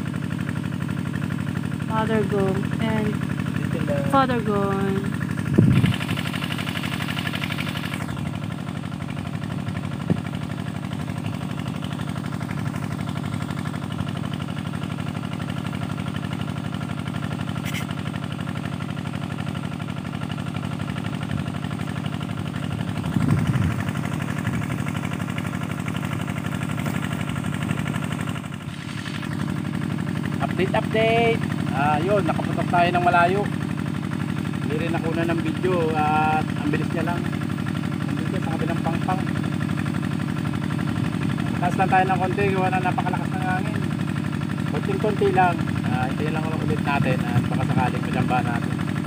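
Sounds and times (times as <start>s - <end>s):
engine droning: 0.0s - 49.0s.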